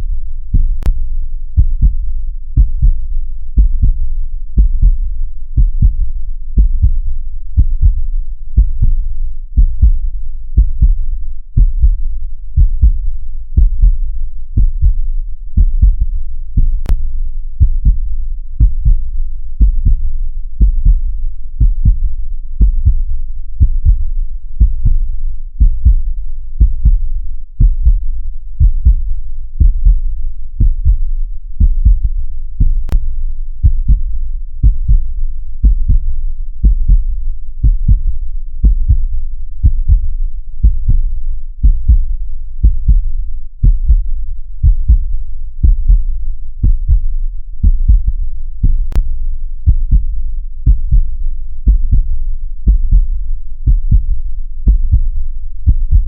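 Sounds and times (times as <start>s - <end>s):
heartbeat thumps: 0.5s - 1.0s, 1.6s - 2.0s, 2.6s - 3.0s, 3.6s - 4.0s, 4.6s - 5.0s, 5.6s - 7.0s, 7.6s - 9.0s, 9.6s - 10.0s, 10.6s - 11.0s, 11.6s - 12.0s, 12.6s - 13.0s, 13.6s - 14.0s, 14.6s - 17.0s, 17.6s - 21.0s, 21.6s - 27.0s, 27.6s - 33.0s, 33.6s - 49.1s, 49.7s - 56.0s.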